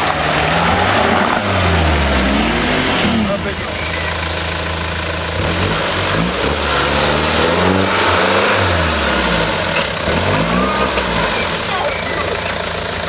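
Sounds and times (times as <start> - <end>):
car engine revving under load: 0.0 - 13.0.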